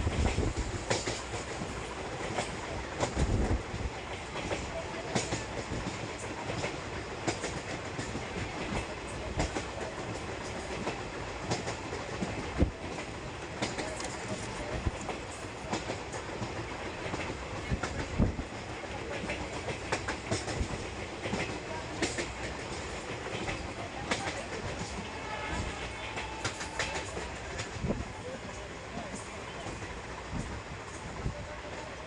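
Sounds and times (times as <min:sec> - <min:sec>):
train coach rumbling: 0:00.0 - 0:32.0
wheels clicking over rail joints: 0:00.1 - 0:31.0.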